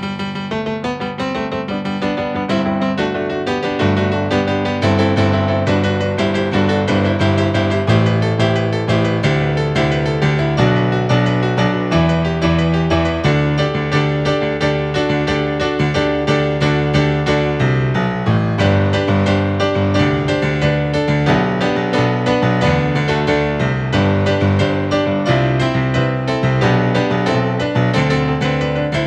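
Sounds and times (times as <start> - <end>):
piano playing: 0.0 - 29.0.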